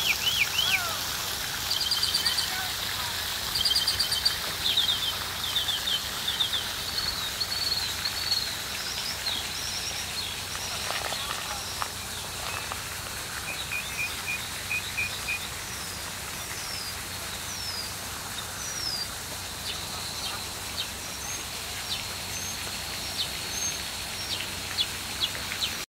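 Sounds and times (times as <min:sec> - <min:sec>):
background hiss: 0:00.0 - 0:25.8
songbirds singing and calling: 0:00.0 - 0:25.8.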